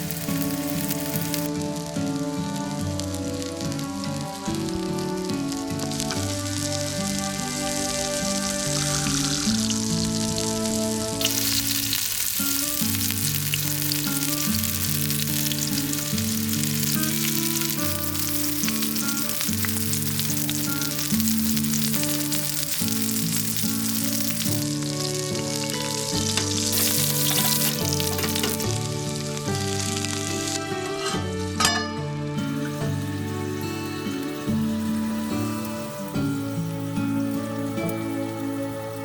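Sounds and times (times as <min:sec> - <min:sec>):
food sizzling in a pan: 0:00.0 - 0:31.8, 0:32.4 - 0:39.0
background music: 0:00.0 - 0:39.0.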